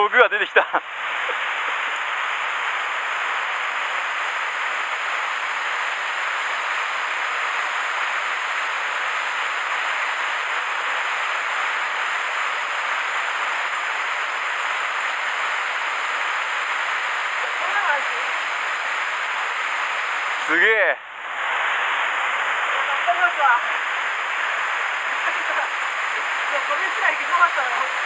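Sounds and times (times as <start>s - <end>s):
waterfall roaring: 0.4s - 28.0s.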